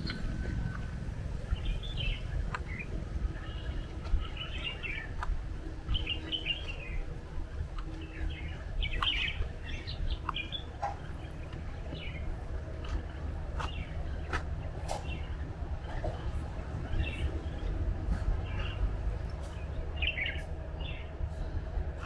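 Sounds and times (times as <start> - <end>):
low rumble: 0.0 - 22.0
small birds chirping: 0.0 - 22.0.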